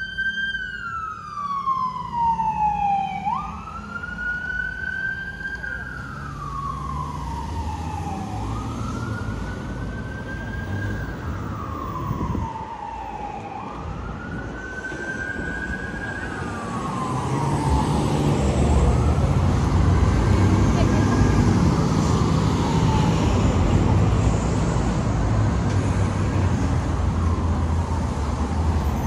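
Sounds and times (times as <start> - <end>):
emergency siren wailing: 0.0 - 29.0
street traffic rumble: 0.0 - 29.0.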